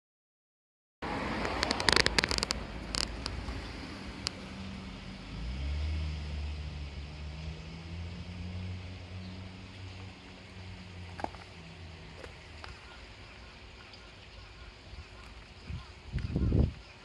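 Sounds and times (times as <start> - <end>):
low engine hum: 1.0 - 17.0.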